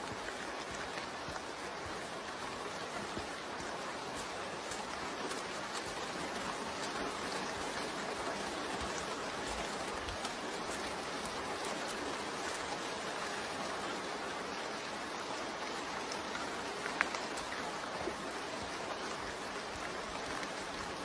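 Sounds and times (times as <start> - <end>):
rain and running water: 0.0 - 21.0.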